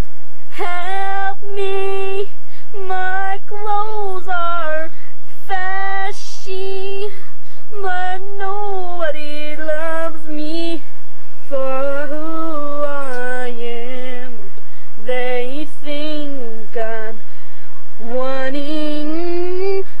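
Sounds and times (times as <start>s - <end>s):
girl singing: 0.5s - 14.4s, 15.0s - 17.4s, 18.0s - 20.0s.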